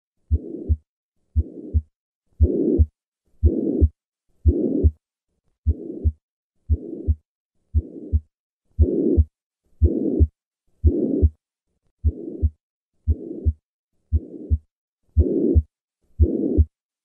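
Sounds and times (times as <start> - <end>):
heartbeat: 0.3 - 5.0, 5.6 - 11.4, 12.0 - 16.8
rushing heart murmur: 0.3 - 5.0, 5.7 - 11.3, 12.0 - 16.8.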